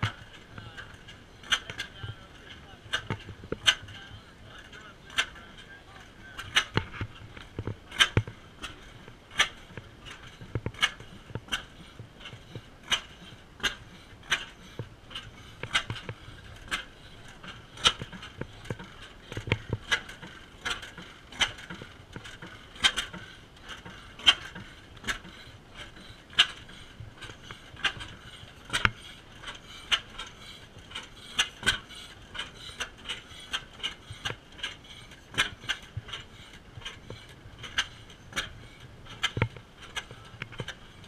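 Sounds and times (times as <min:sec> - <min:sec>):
old engines clicking and popping: 0:00.0 - 0:41.0.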